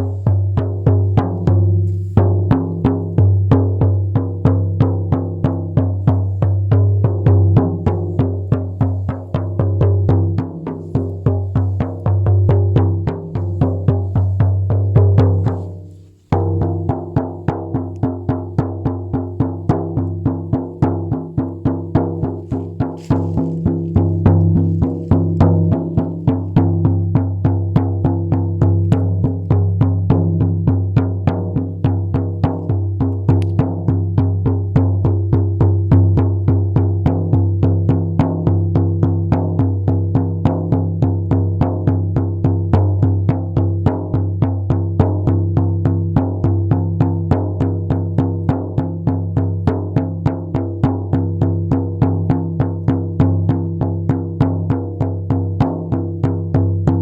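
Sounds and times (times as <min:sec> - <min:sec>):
frame drum beating: 0:00.0 - 0:57.0.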